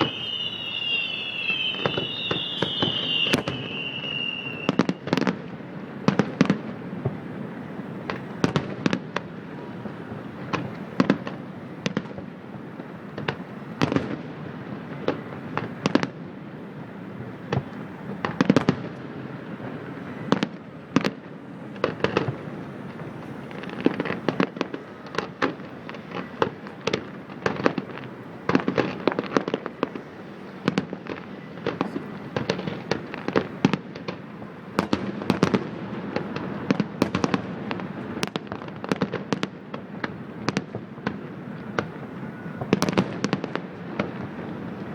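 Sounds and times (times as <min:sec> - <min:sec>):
fireworks bursting: 0:00.0 - 0:44.9
fireworks rumble and crackle: 0:00.0 - 0:44.9.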